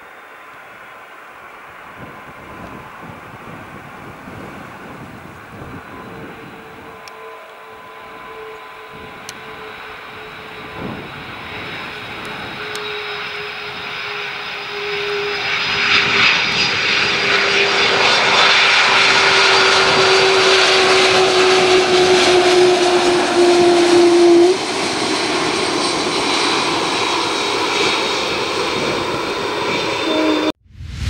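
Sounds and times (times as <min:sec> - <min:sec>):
jet engines whining: 0:00.0 - 0:31.0
broad roar: 0:04.0 - 0:30.5.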